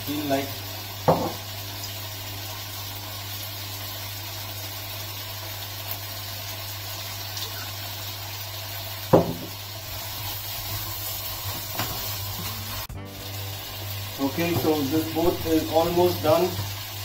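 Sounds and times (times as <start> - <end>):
food sizzling in woks: 0.0 - 17.0.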